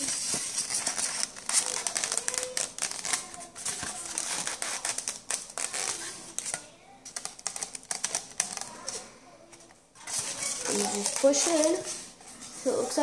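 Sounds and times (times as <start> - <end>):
foam scratching and clicking: 0.0 - 12.5.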